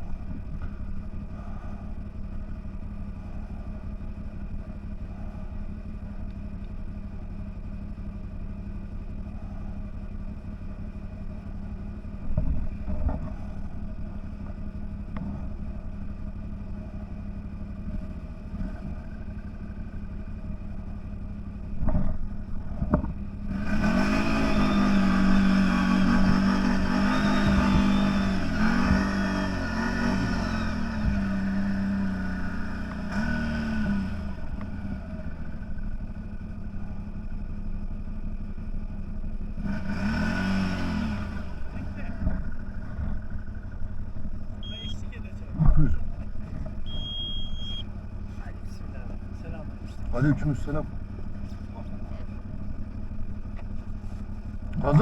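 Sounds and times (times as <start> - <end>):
vehicle engine running and revving: 0.0 - 55.0.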